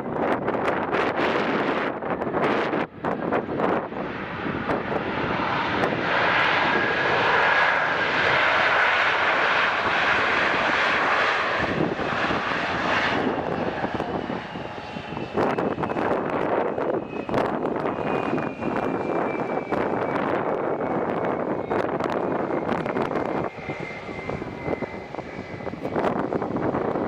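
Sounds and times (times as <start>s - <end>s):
airplane engines roaring: 0.0s - 27.0s
high engine whine: 1.1s - 27.0s.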